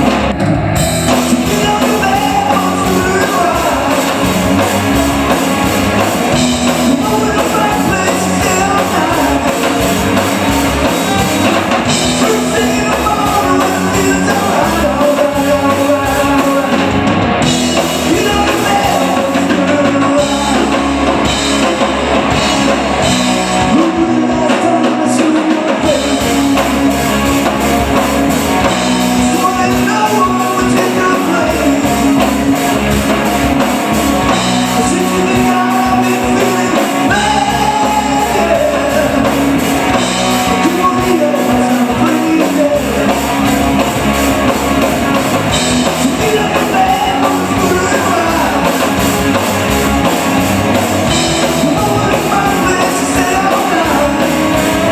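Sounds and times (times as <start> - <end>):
drum kit: 0.0 - 54.9
electric guitar: 0.0 - 54.9
person singing: 0.4 - 5.4, 6.3 - 17.1, 17.7 - 27.4, 28.9 - 33.4, 34.0 - 44.0, 45.2 - 49.8, 51.1 - 54.9.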